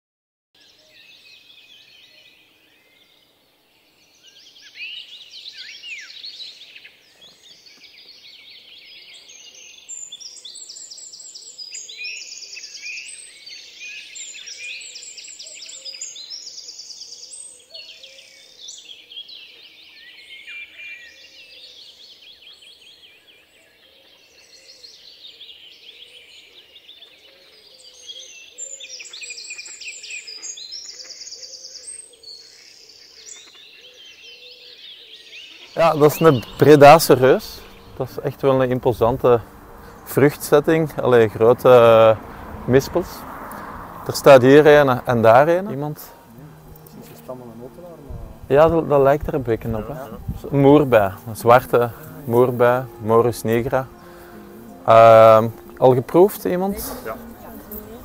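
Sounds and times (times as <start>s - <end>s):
birds singing: 0.6s - 58.0s.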